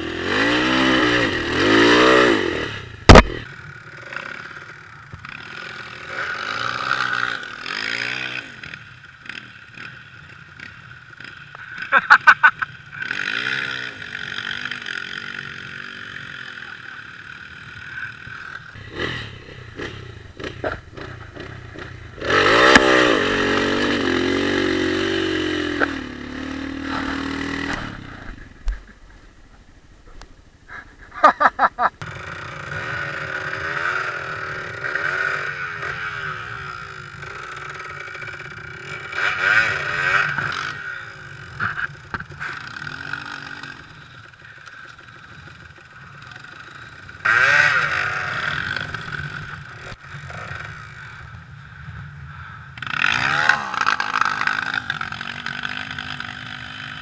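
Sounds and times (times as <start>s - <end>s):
dirt bike engine revving: 0.0s - 28.9s, 31.3s - 57.0s.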